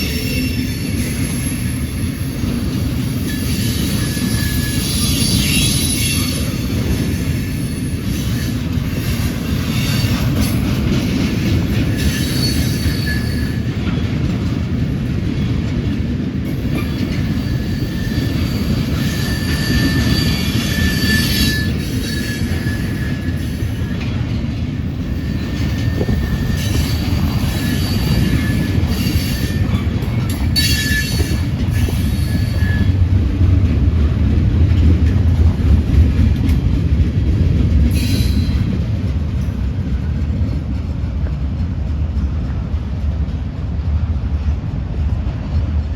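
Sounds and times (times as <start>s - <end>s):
wheels squealing on rails: 0.0s - 43.6s
freight train rumbling past: 0.0s - 45.9s.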